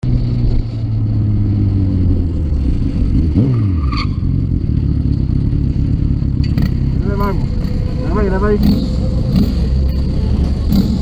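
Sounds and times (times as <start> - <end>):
motorcycle engine revving: 0.1 - 11.0.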